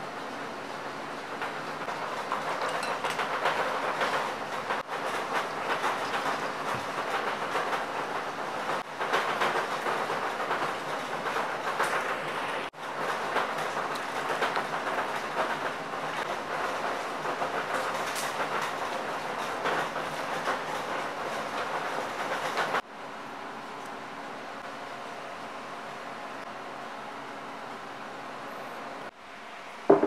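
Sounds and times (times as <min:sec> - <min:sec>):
crackling kitchen cooking noise: 0:00.0 - 0:30.0.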